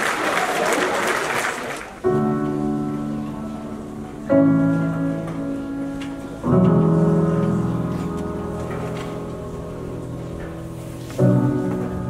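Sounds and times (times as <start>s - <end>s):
piano chords: 2.0s - 12.0s.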